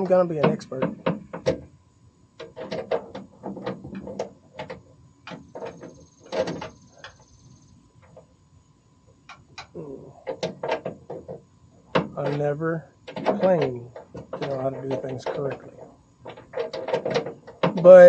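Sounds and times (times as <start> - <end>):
clicks and knocks of hardware: 0.0 - 1.7, 2.4 - 7.3, 9.3 - 12.4, 13.1 - 18.0.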